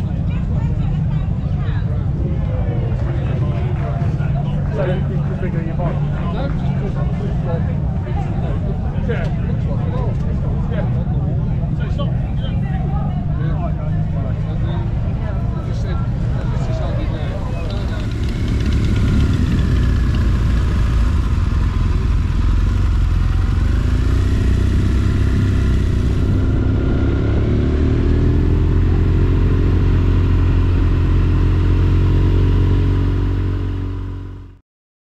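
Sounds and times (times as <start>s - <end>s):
motorcycle engines rumbling: 0.0s - 34.6s.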